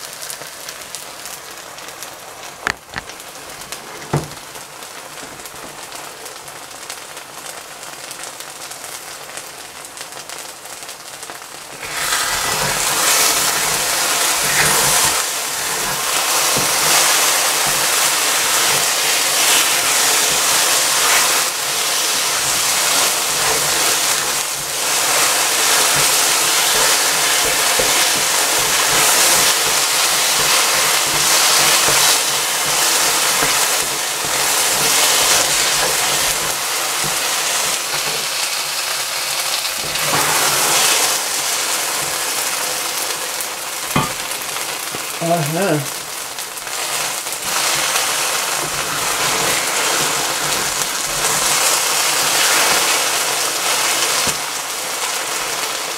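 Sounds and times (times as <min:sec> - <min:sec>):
water hissing and bubbling in pot: 0:10.6 - 0:55.9.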